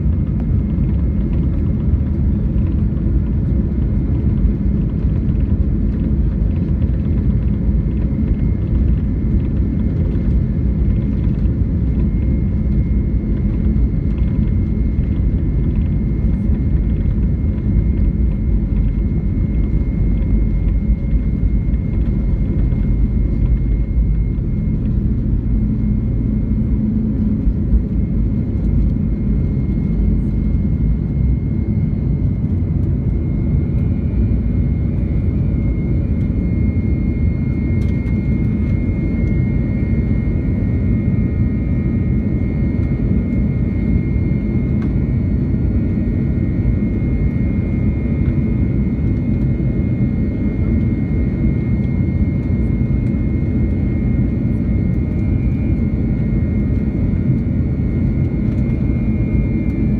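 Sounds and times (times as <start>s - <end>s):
jet engines roaring in cabin: 0.0s - 59.9s
thin high engine whine: 0.0s - 59.9s.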